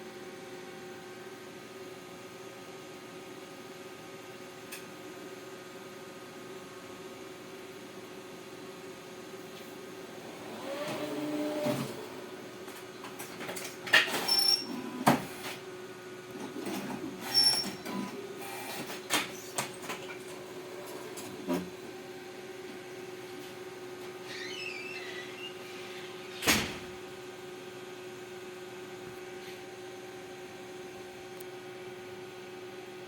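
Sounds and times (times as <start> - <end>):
electrical hum: 2.8 - 33.0.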